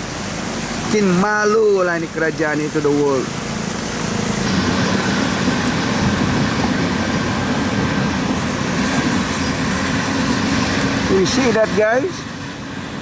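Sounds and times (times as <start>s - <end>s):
large engine humming: 0.0s - 13.0s.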